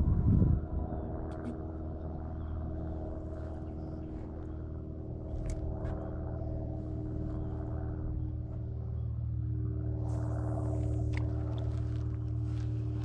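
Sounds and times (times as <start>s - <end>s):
boat motor humming: 1.1s - 13.0s.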